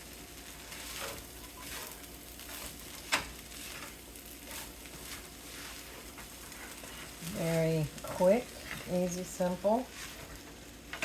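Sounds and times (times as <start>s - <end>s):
rice sizzling in a frying pan: 0.0s - 11.0s
scraping in a pan: 0.4s - 11.0s.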